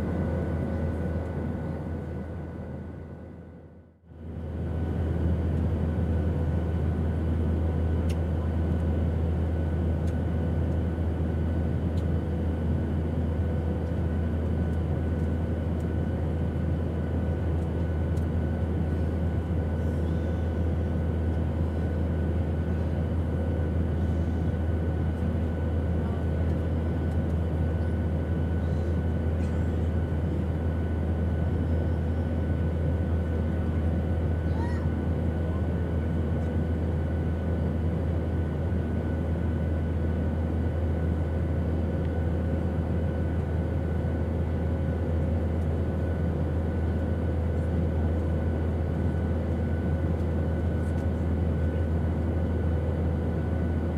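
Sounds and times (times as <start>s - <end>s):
airplane engine drone: 0.0s - 53.9s.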